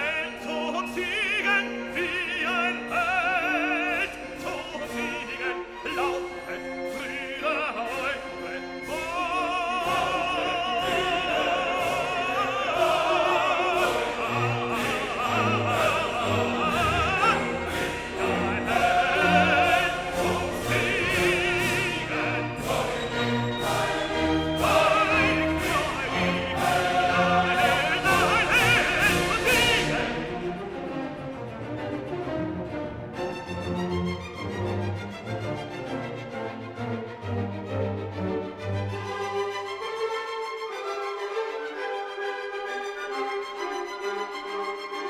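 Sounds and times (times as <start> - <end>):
operatic singing: 0.0 - 45.0
orchestral accompaniment: 0.0 - 45.0.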